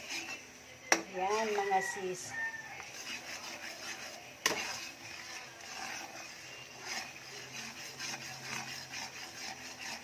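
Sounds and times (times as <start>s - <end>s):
butter and garlic sizzling: 0.0s - 10.0s
metal spatula scraping wok: 0.0s - 10.0s.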